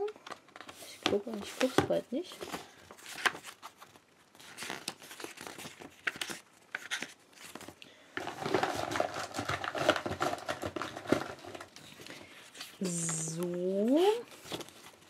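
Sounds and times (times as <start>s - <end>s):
book pages rustling: 0.2s - 15.0s.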